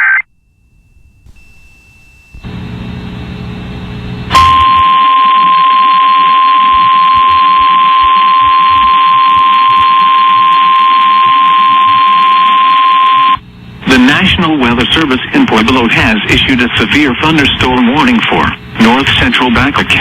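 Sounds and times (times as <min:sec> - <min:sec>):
low hum: 0:00.3 - 0:20.0.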